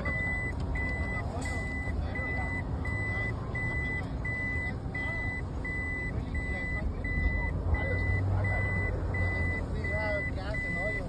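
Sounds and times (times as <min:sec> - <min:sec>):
engine and traffic rumble: 0:00.0 - 0:11.0
reversing beeper: 0:00.0 - 0:11.0.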